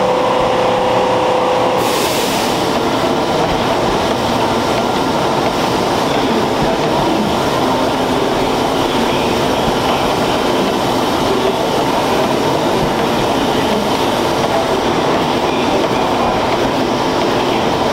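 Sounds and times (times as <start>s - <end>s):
steam engines clattering: 1.8s - 17.9s.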